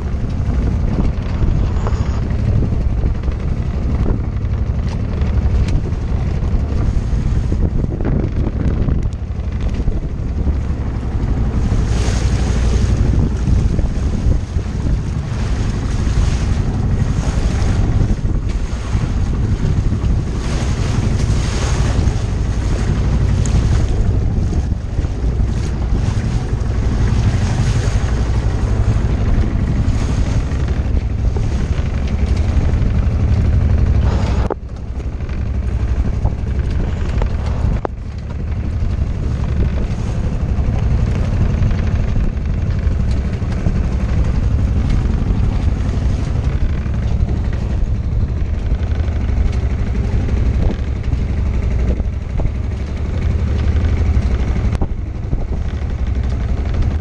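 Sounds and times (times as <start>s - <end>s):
bow wave splashing: 0.0s - 57.0s
wind buffeting microphone: 0.0s - 57.0s.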